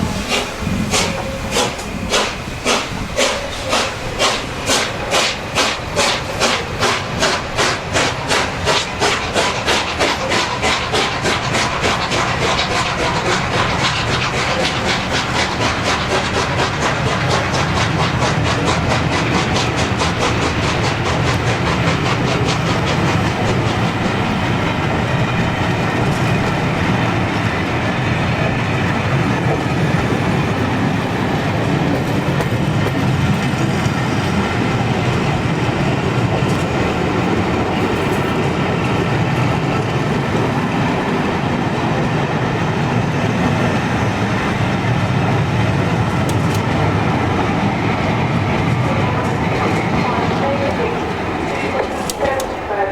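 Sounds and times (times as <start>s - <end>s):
fast clicking of train wheels: 0.0s - 52.9s
train rolling rumble: 0.0s - 52.9s.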